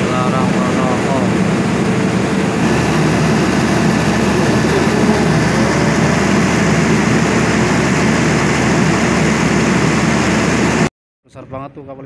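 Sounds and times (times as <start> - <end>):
engine-room machinery humming: 0.0 - 10.9.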